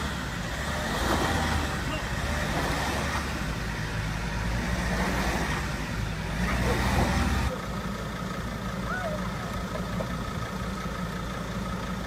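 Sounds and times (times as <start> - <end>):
van engine running under load: 0.0 - 12.0.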